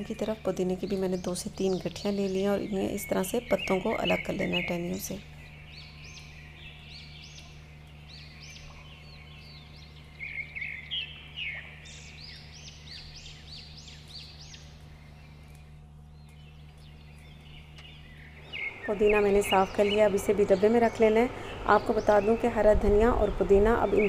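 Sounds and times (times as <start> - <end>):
birds chirping: 0.0 - 24.0
low hum: 0.0 - 24.0.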